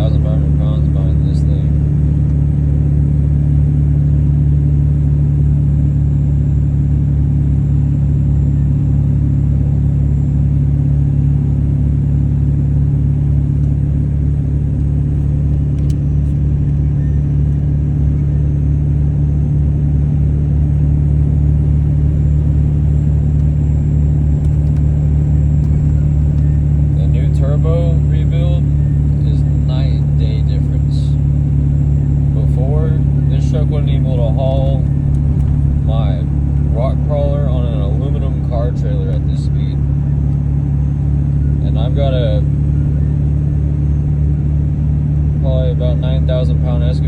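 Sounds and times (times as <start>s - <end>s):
diesel engine low drone: 0.0s - 47.0s.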